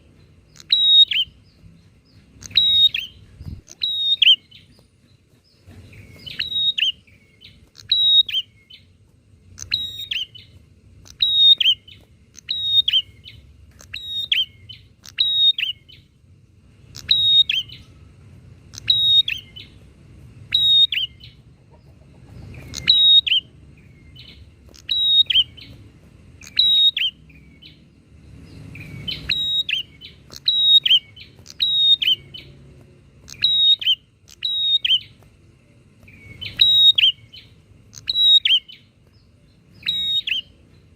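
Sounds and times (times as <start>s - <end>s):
birds calling sharp high phrases: 0.0s - 40.9s.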